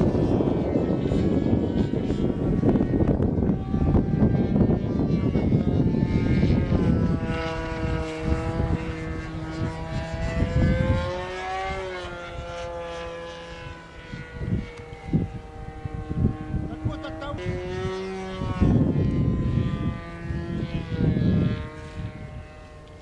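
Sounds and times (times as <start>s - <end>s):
model airplane engine droning: 0.0s - 23.0s.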